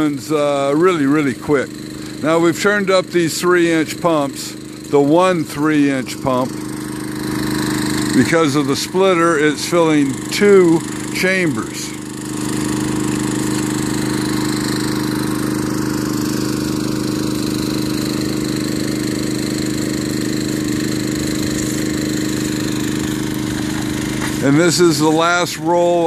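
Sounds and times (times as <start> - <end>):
water pump engine drone: 0.0 - 26.0.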